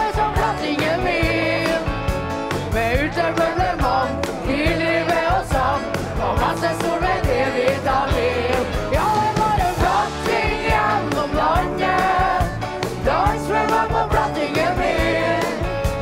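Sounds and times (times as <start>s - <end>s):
backing band: 0.0s - 16.0s
steady drum beat: 0.0s - 16.0s.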